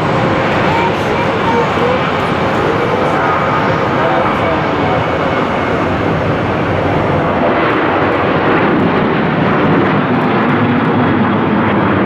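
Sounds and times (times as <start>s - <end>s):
airliner engines passing: 0.0s - 12.0s.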